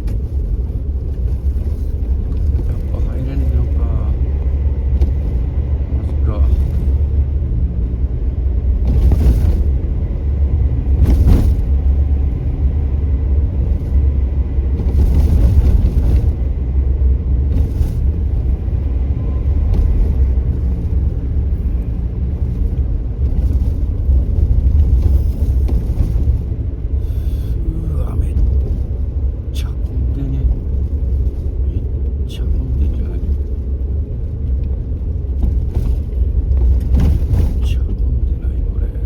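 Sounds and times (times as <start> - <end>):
vehicle rumbling in motion: 0.0 - 39.0.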